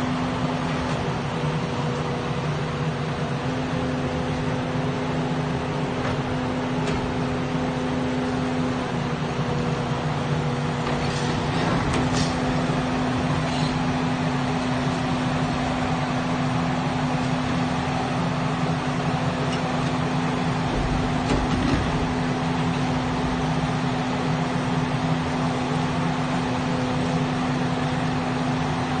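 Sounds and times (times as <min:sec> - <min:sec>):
demolition machinery droning: 0:00.0 - 0:29.0.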